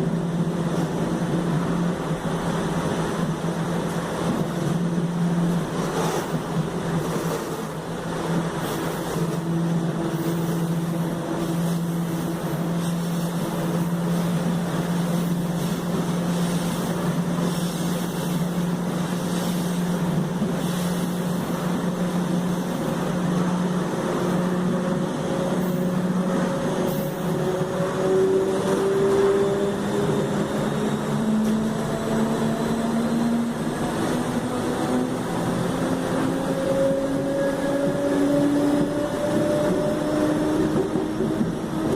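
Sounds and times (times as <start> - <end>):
running train rushing: 0.0 - 41.9.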